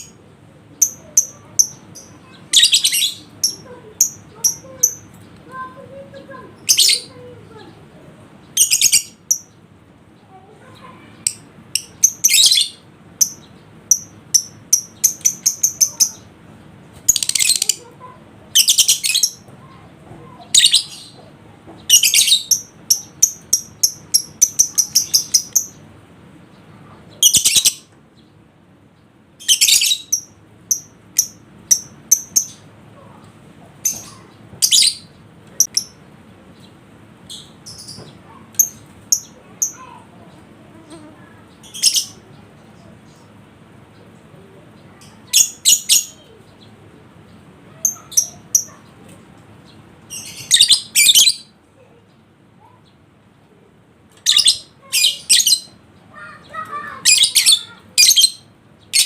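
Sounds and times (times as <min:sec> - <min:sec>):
bird chirping: 0:00.8 - 0:07.7, 0:08.4 - 0:53.0, 0:54.1 - 0:59.0.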